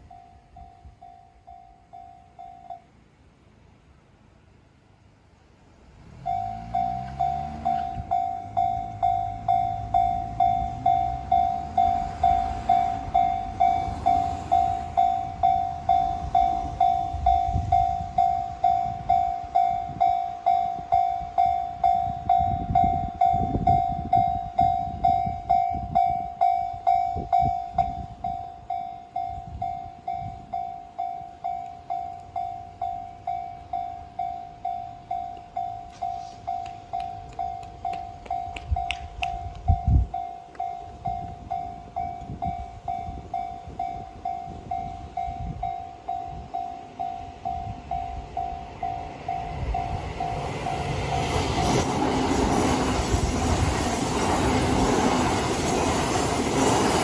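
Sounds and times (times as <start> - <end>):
level crossing warning bell: 0.0 - 3.0, 6.0 - 57.0
low rising whirr of barrier: 5.3 - 57.0.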